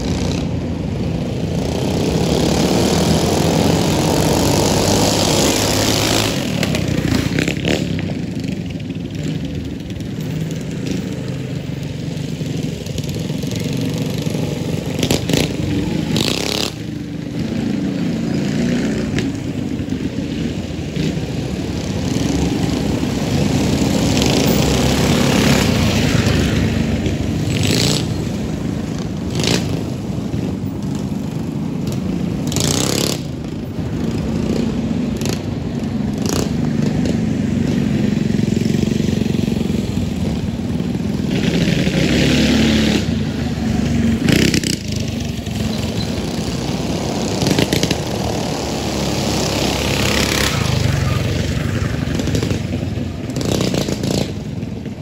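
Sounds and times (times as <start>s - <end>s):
mini bike engines revving: 0.0s - 55.0s.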